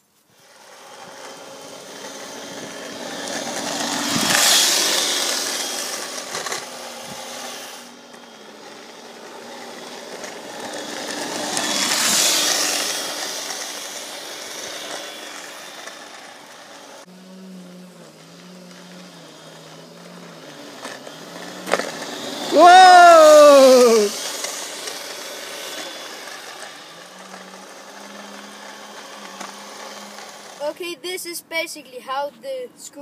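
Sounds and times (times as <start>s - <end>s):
drill motor whining: 0.3s - 30.6s
small wheels rattling on asphalt: 0.3s - 32.0s.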